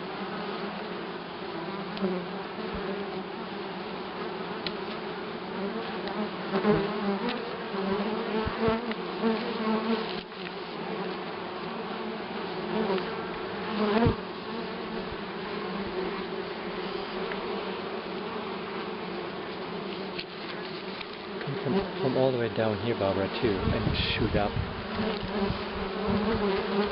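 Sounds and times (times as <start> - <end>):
honeybees buzzing: 0.0 - 26.9.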